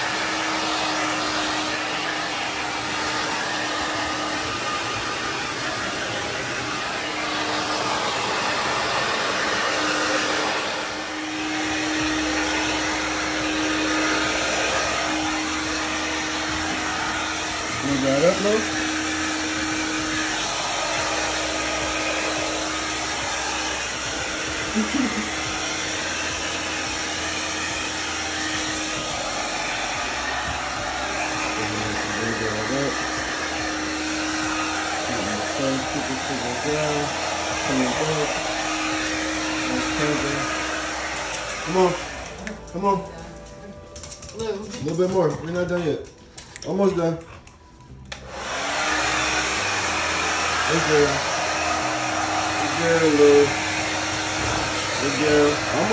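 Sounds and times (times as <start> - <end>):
blow dryer running: 0.0 - 55.9.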